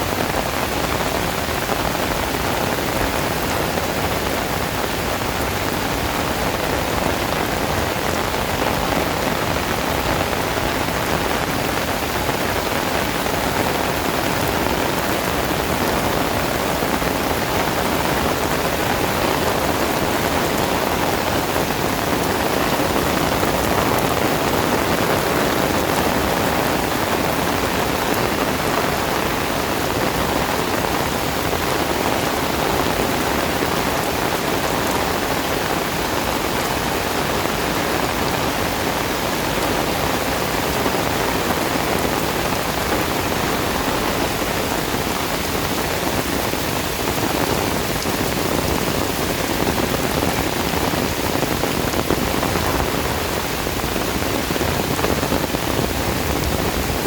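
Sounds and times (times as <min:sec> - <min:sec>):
heavy rain drumming on surfaces: 0:00.0 - 0:57.0.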